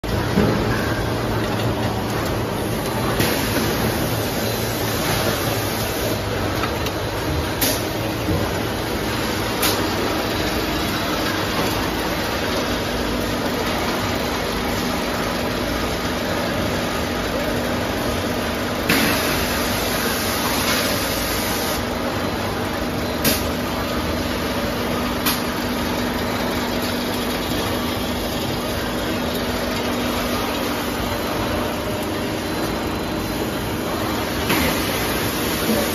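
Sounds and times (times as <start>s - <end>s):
machine mechanical hum: 0.0s - 35.9s.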